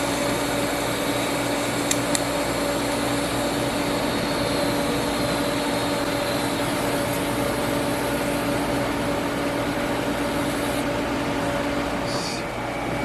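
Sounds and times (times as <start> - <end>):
welding arc hissing: 0.0 - 11.2
electrical hum: 0.0 - 13.0.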